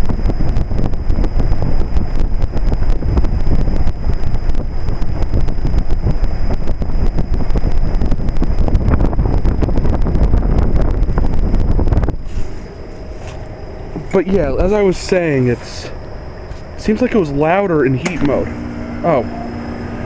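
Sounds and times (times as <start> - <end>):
faint high whine: 0.0 - 20.0
heat pump outdoor unit running: 0.0 - 20.0
wind buffeting microphone: 0.0 - 20.0.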